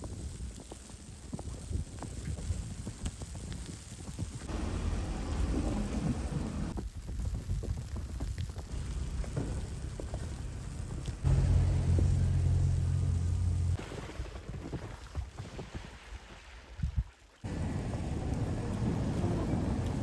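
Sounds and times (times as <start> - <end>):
wind rumble on microphone: 0.0 - 13.8, 16.8 - 20.0.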